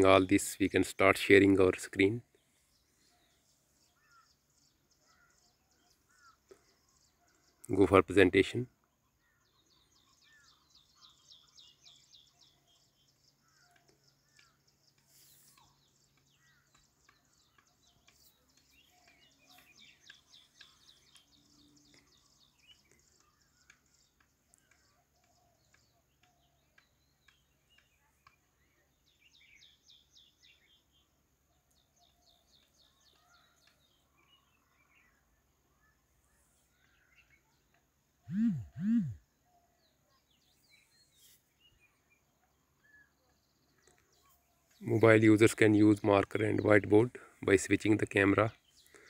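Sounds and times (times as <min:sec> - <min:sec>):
faint birds trilling: 0:00.0 - 0:49.0.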